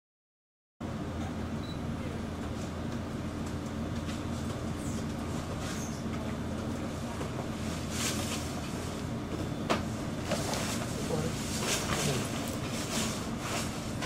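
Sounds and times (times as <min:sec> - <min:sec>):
low machine hum: 0:00.8 - 0:14.0.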